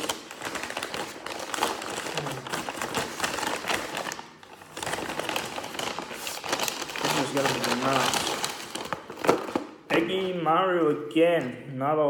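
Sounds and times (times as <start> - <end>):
paper bag crinkling: 0.0 - 10.5.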